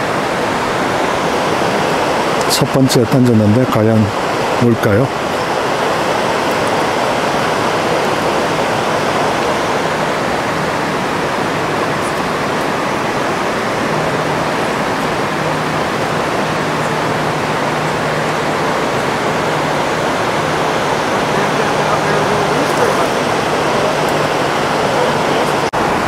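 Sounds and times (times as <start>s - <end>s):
river current rushing over rocks: 0.0s - 26.0s.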